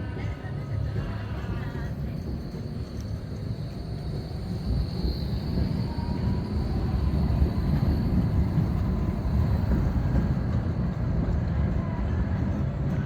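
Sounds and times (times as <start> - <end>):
faint tram whine: 0.0 - 13.0
tram rumbling: 0.0 - 13.0.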